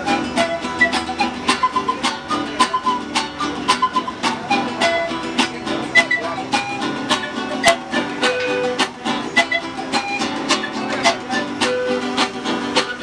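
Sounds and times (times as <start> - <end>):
strummed acoustic guitars: 0.0 - 13.0.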